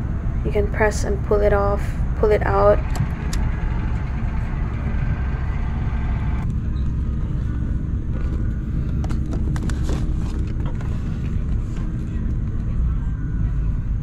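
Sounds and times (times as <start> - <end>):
airplane cabin low rumble: 0.0 - 14.0
mid-range hum: 0.0 - 14.0.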